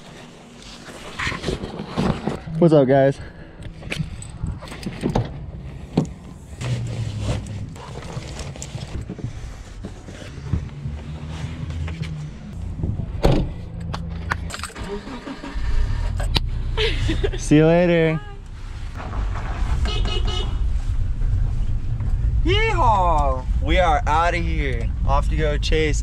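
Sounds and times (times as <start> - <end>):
steady low rumble: 2.4 - 14.8, 15.5 - 26.0.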